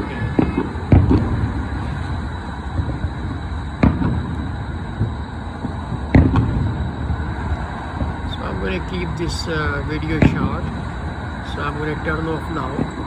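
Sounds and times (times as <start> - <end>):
distant fireworks booming: 0.0 - 13.0
traffic rumble: 0.0 - 13.0.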